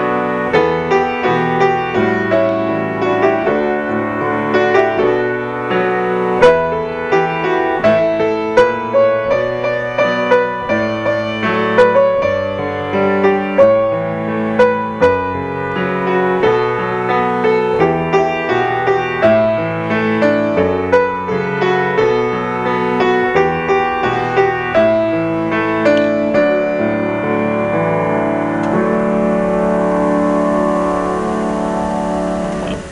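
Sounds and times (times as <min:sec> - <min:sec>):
solo grand piano: 0:00.0 - 0:32.9.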